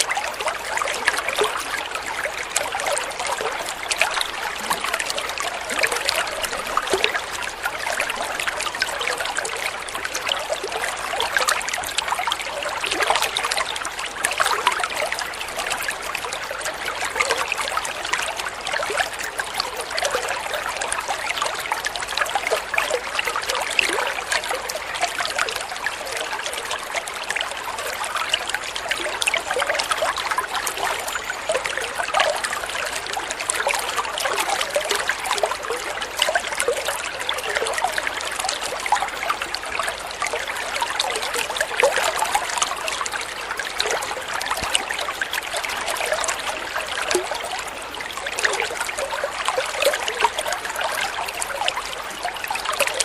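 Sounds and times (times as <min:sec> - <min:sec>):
small bubbling splashes: 0:00.0 - 0:53.0
water flowing and trickling: 0:00.0 - 0:53.0.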